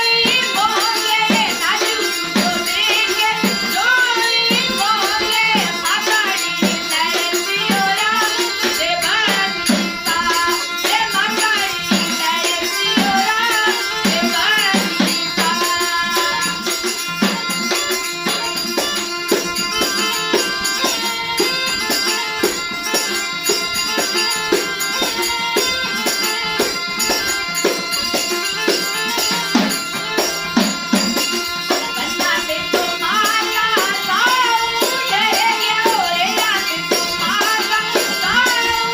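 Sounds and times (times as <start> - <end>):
rapid hand drum strokes: 0.0 - 38.9.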